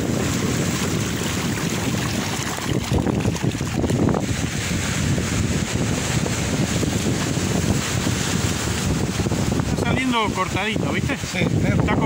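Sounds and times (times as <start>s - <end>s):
small waves washing on sand: 0.0s - 12.0s
wind buffeting microphone: 0.0s - 12.0s.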